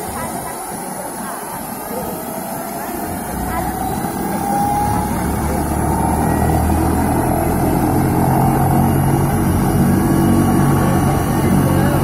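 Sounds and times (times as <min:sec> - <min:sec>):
helicopter engine whine: 0:00.0 - 0:12.0
helicopter rotor beat: 0:00.0 - 0:12.0.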